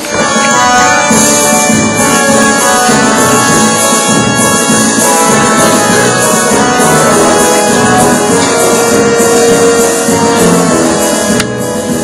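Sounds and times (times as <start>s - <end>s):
orchestral anthem with brass: 0.0s - 12.0s.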